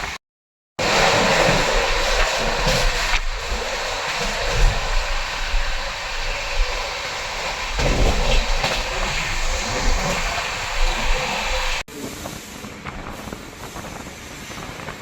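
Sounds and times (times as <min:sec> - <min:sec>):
train rumbling on rails: 0:00.8 - 0:15.0.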